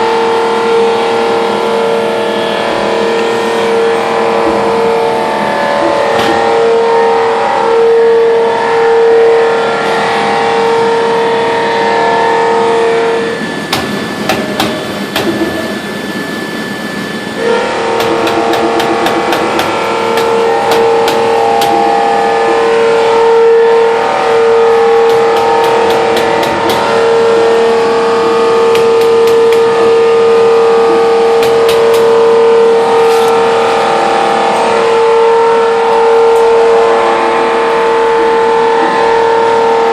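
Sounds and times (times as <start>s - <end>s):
punch press whine: 0.0s - 39.9s.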